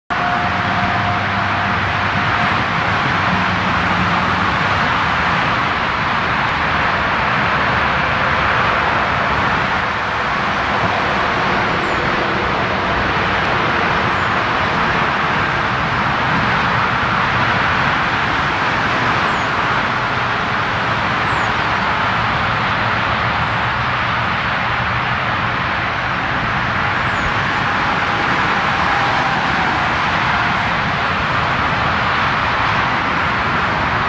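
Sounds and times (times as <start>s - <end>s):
road traffic roar: 0.1s - 34.0s.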